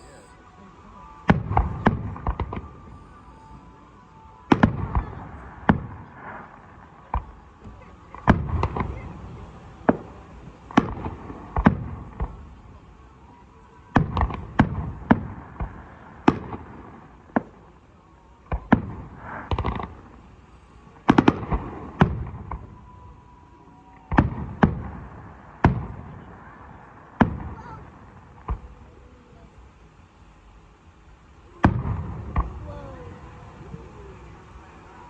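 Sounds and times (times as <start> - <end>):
fireworks bursting with echoes: 0.0 - 13.3, 13.9 - 29.7, 31.3 - 35.0.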